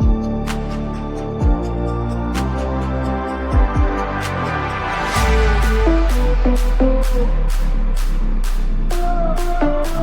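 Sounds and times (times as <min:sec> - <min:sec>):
deep bass: 0:00.0 - 0:10.0
electronic music: 0:00.0 - 0:10.0.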